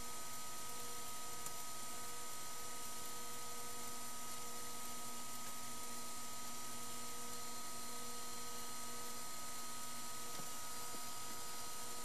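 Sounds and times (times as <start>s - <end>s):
electronic equipment hum and hiss: 0.0s - 12.0s.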